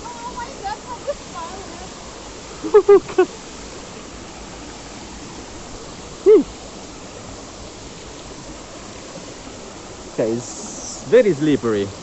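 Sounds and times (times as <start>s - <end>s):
river and waterfall rushing: 0.0s - 12.0s.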